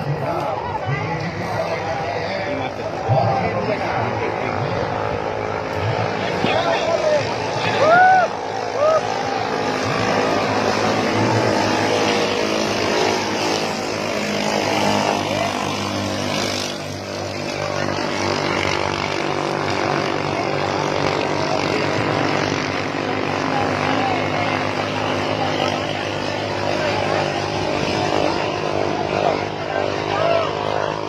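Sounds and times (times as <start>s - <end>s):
longtail boat engines droning: 0.0s - 31.0s.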